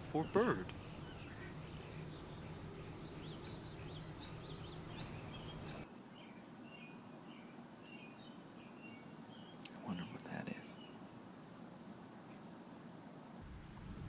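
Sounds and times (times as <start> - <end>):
small birds chirping: 0.0 - 13.4
low background hum: 0.0 - 14.0.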